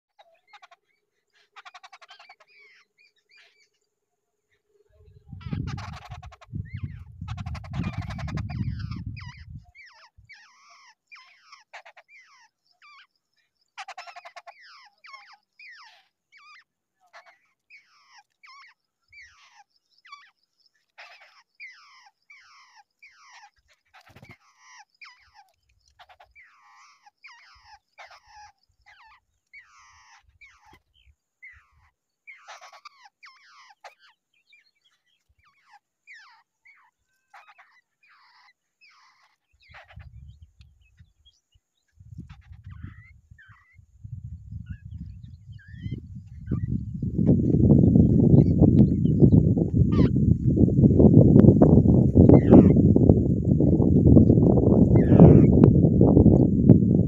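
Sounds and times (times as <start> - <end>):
birds chattering: 0.1 - 57.0.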